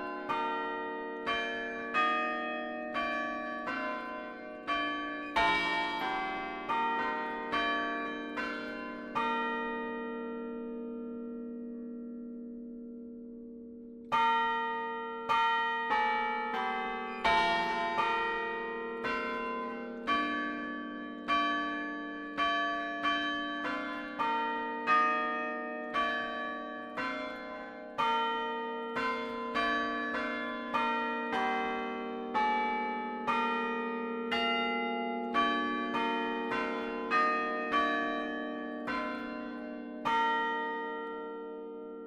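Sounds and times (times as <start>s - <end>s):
church bells chiming a tune: 0.0s - 42.0s.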